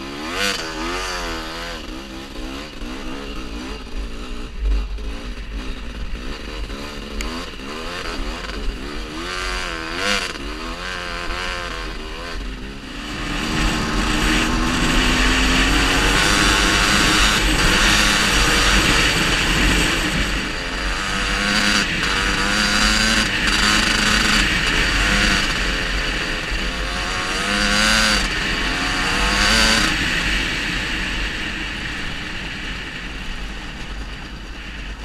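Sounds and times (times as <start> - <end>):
two-stroke motorcycle engine revving: 0.0 - 35.0.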